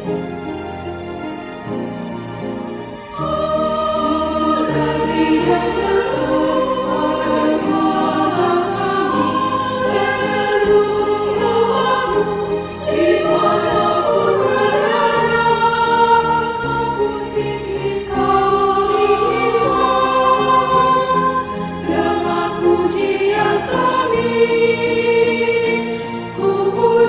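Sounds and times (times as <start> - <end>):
choir singing held chords: 0.0 - 27.0.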